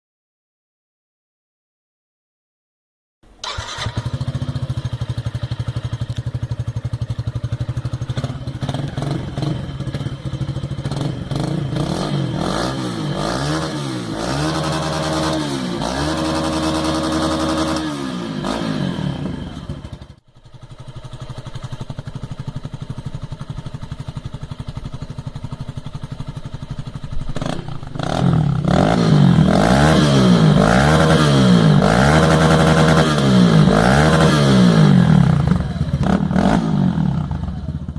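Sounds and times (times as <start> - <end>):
motorcycle engine idling and revving: 3.4 - 37.9.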